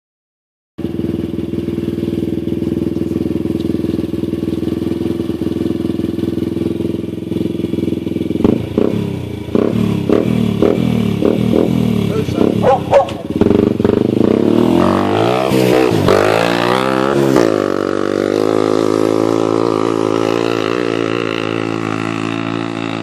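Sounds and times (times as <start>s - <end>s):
small engine idling and revving: 0.8s - 23.0s.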